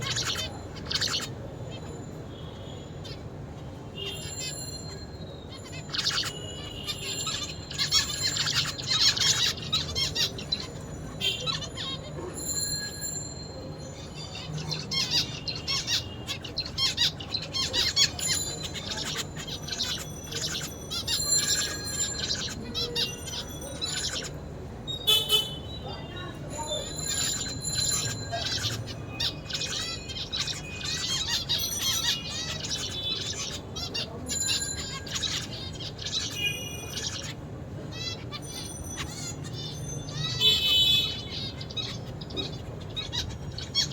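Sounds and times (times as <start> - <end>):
finch buzzy chirping: 0.0 - 1.9, 4.0 - 13.0, 13.9 - 25.7, 26.6 - 43.9.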